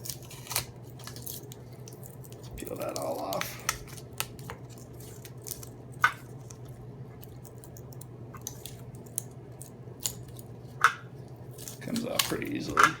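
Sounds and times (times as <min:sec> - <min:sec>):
steady low hum: 0:00.0 - 0:13.0
wrapping peeled crackling: 0:00.0 - 0:13.0.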